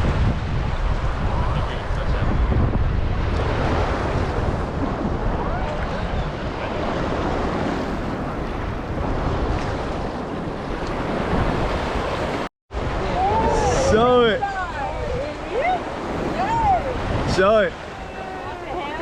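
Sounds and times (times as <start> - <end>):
waves washing on beach: 0.0 - 19.0
wind buffeting microphone: 0.0 - 19.0.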